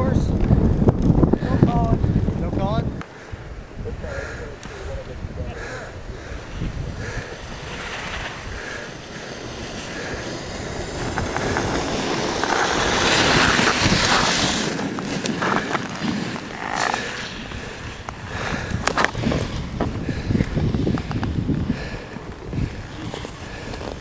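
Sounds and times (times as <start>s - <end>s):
snowboards carving on snow: 0.0s - 24.0s
wind rumbling on microphone: 0.0s - 24.0s.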